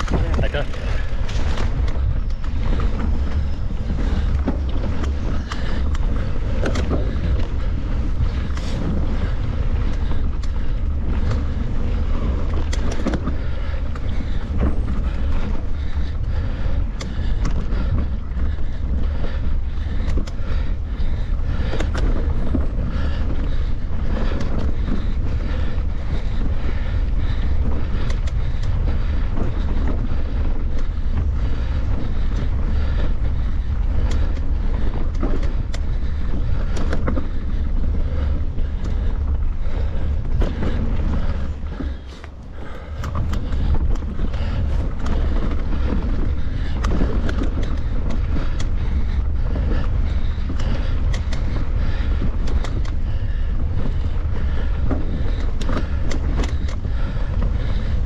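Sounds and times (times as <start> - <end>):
bike clicks and knocks: 0.0 - 58.0
wind buffeting microphone: 0.0 - 58.0.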